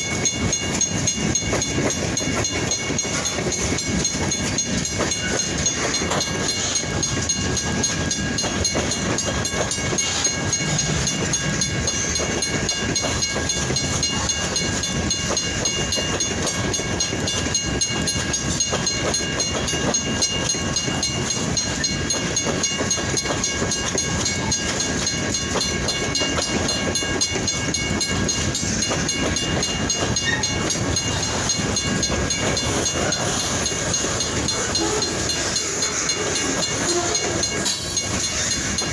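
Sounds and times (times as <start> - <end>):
freight train cars rumbling past: 0.0 - 38.9.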